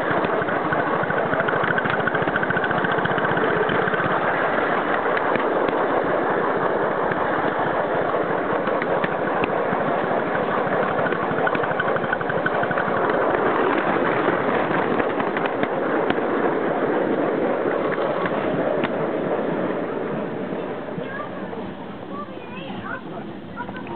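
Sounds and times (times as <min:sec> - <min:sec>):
steam locomotive exhaust beats: 0:00.0 - 0:23.9
wheels rolling on rails: 0:00.0 - 0:23.9.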